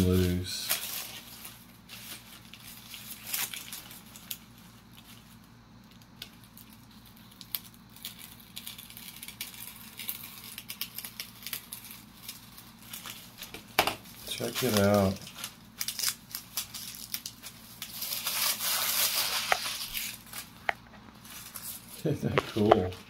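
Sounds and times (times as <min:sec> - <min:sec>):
thin wood sheet crinkling: 0:00.0 - 0:23.0.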